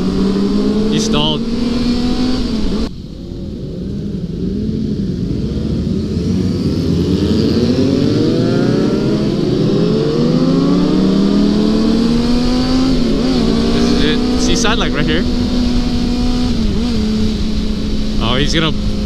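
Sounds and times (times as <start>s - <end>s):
motorcycle engines accelerating: 0.0s - 19.0s.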